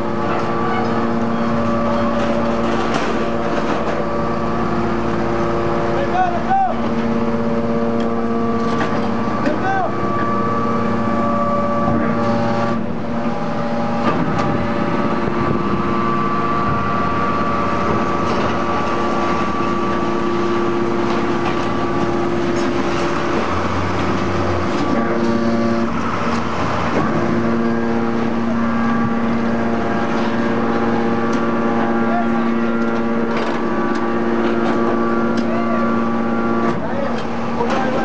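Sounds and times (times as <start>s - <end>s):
hydraulic pump whine: 0.0s - 38.0s.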